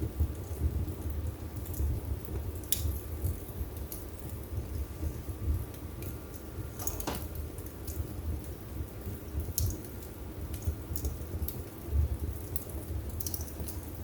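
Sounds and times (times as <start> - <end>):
low rumble of flame: 0.0 - 14.0
wood fire crackling and popping: 0.0 - 14.0.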